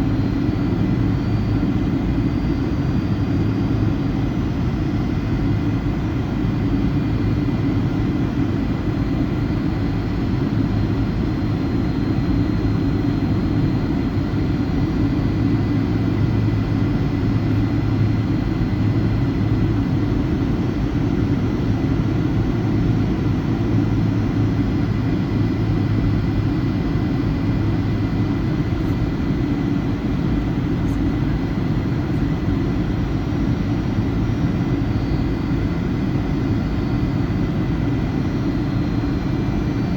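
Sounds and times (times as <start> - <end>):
aircraft cabin engine drone: 0.0 - 39.9
faint engine whine: 0.0 - 39.9.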